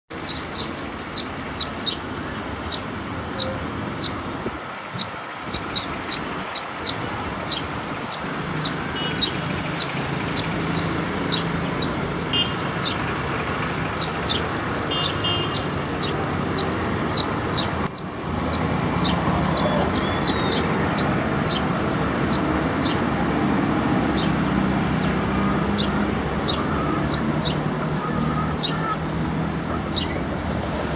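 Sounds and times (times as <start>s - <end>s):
sparrow chirping: 0.1s - 30.3s
road traffic hum: 0.1s - 30.9s.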